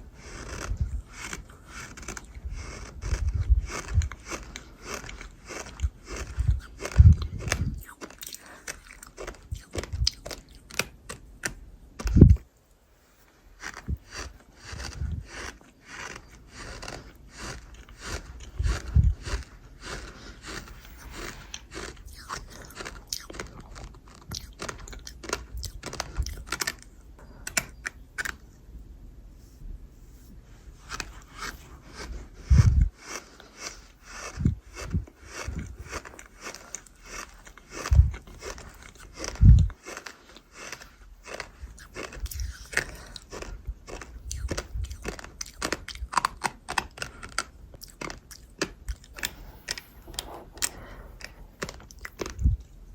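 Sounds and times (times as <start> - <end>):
crunchy chewing: 0.0 - 12.5, 13.1 - 28.5, 30.8 - 52.9.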